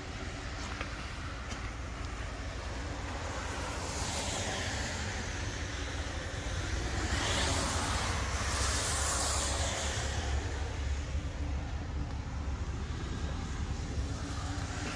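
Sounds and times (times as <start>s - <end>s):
low traffic rumble: 0.0s - 14.9s
tyre hiss on wet pavement: 0.2s - 14.9s.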